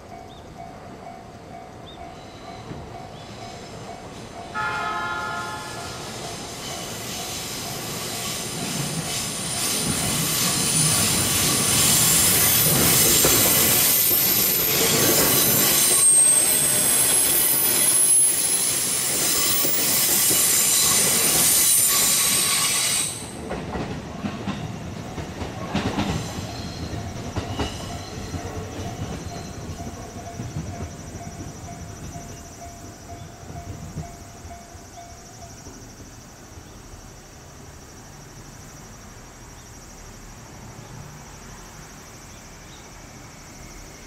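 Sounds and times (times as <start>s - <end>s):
rail clicks: 0.0s - 36.2s
electric train passing: 0.0s - 44.0s
train wheel squeal: 1.5s - 39.2s.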